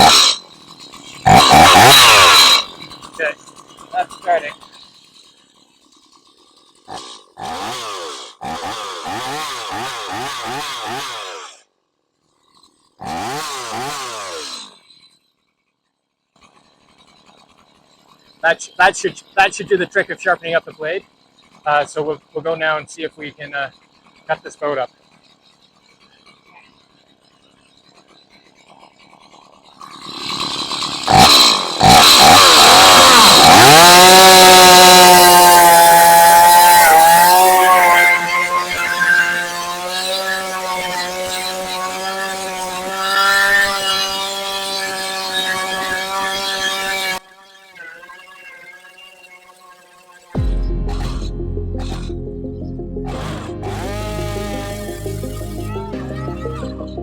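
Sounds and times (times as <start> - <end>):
chainsaw revving: 0.0 - 15.3, 16.4 - 57.0.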